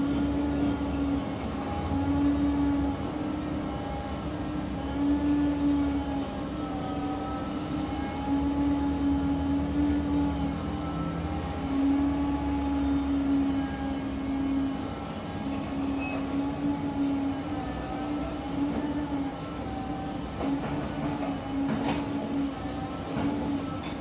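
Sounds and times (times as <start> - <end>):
excavator engine and hydraulics drone: 0.0 - 24.0
hydraulic whine: 0.0 - 24.0.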